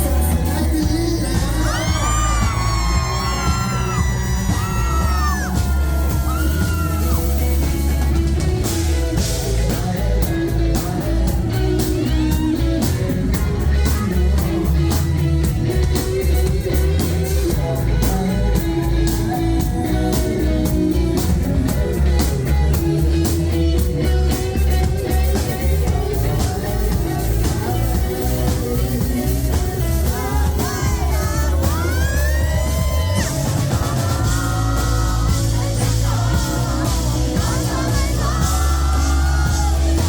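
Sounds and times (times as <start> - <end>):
rock band playing live: 0.0 - 40.0.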